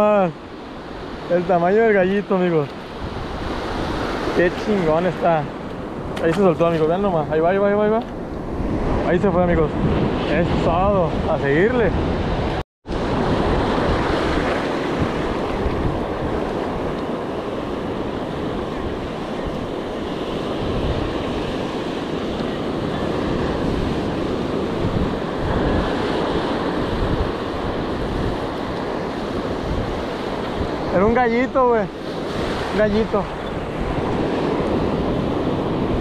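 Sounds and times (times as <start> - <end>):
surf washing on shore: 0.0 - 36.0
wind buffeting microphone: 0.0 - 36.0.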